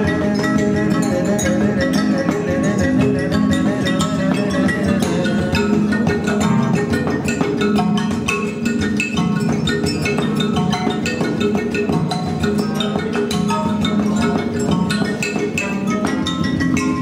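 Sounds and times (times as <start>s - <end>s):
tuned percussion notes: 0.0s - 17.0s.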